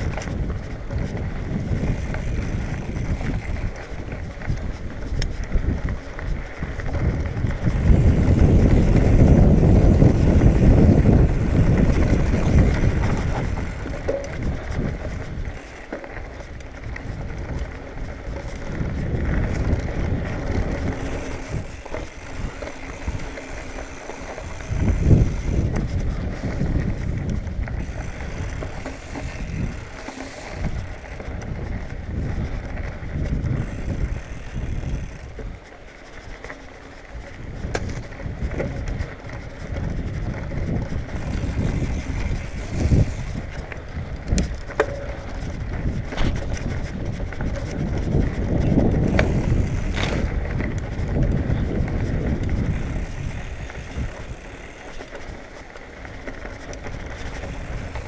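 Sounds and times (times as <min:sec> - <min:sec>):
bike tyre rumble on dirt: 0:00.0 - 0:58.0
wind buffeting microphone: 0:00.0 - 0:58.0.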